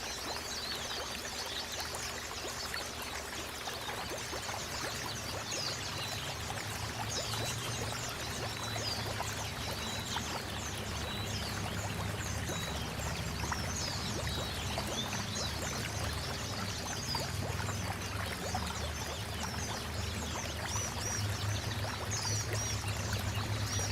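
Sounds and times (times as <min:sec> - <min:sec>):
birds chirping and twittering: 0:00.0 - 0:23.9.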